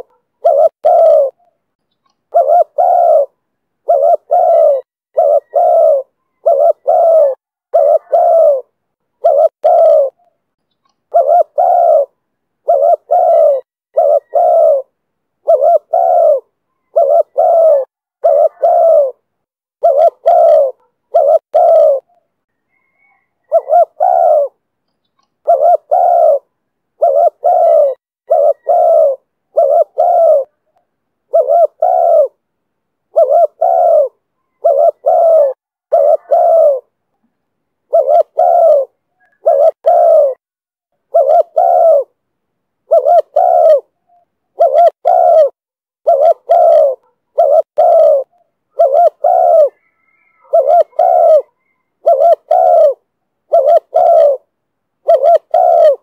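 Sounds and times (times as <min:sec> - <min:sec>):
dove cooing: 0:00.0 - 0:01.6, 0:02.3 - 0:10.4, 0:11.1 - 0:24.6, 0:25.4 - 0:32.4, 0:33.1 - 0:37.0, 0:37.9 - 0:40.4, 0:41.0 - 0:42.2, 0:42.8 - 0:56.0.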